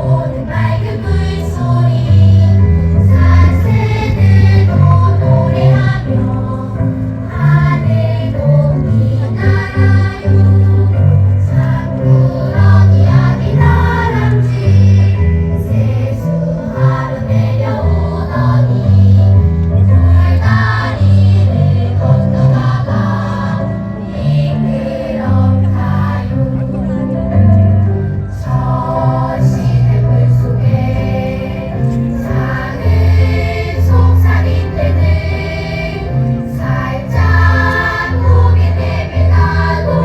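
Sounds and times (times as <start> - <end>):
children's choir singing: 0.0 - 26.9, 28.3 - 40.0.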